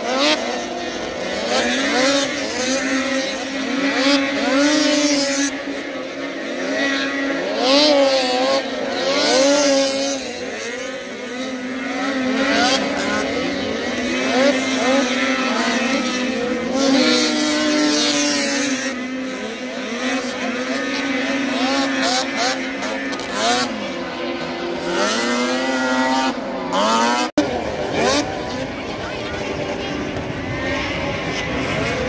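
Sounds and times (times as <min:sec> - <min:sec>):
snowmobile engines whining: 0:00.0 - 0:32.0.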